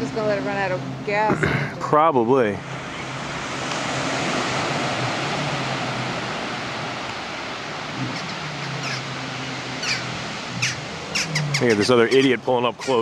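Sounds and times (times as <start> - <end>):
surf washing ashore: 0.0 - 13.0.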